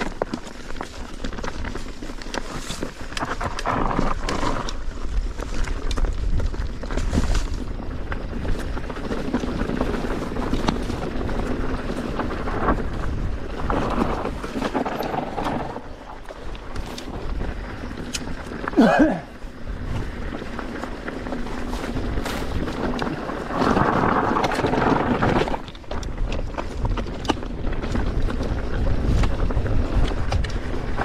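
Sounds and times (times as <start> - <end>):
bike clicks and rattles: 0.0 - 31.0
bike tyres over loose rocks: 0.0 - 31.0
wind on microphone: 1.5 - 31.0.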